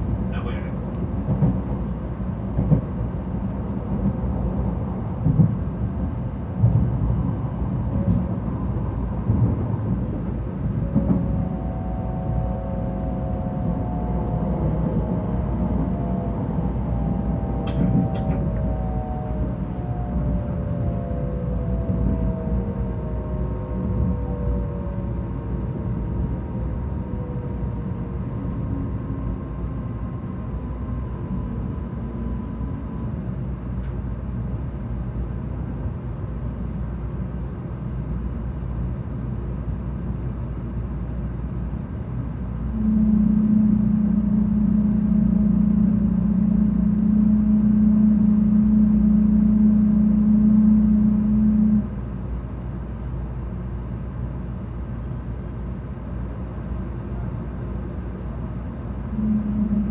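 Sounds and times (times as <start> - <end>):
faint whine: 0.0 - 59.9
loud steady low hum: 0.0 - 59.9
train interior rumble: 0.0 - 59.9.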